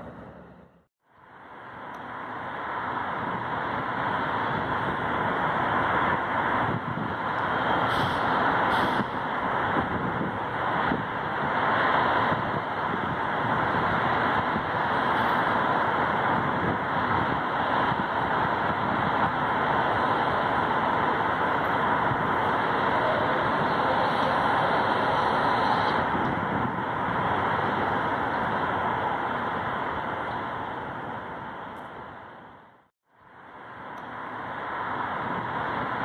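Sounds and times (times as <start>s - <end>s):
city road traffic: 0.0s - 36.0s.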